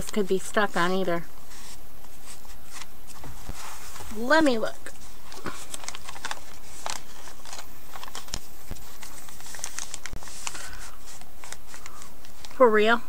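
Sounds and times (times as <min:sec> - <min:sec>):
paper rustling: 0:01.5 - 0:12.8.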